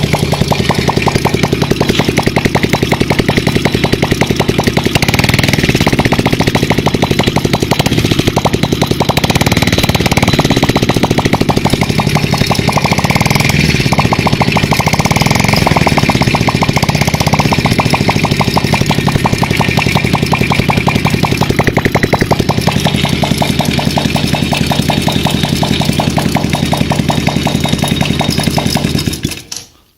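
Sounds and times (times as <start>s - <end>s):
engine exhaust pulsing: 0.0s - 29.4s.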